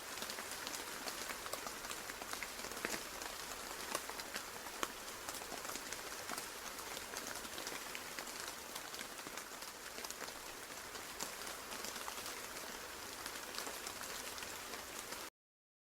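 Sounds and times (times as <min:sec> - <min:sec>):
rain hiss: 0:00.0 - 0:15.3
raindrops ticking on surface: 0:00.0 - 0:15.3.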